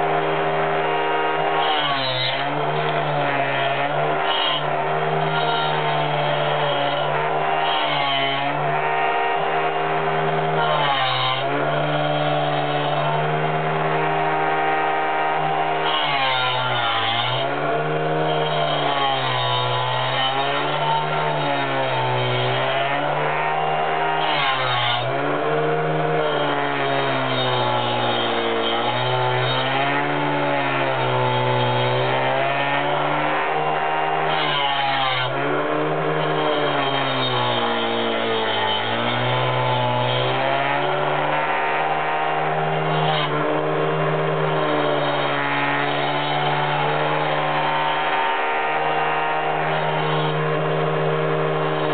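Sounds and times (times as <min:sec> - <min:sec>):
angle grinder cutting board: 0:00.0 - 0:51.9.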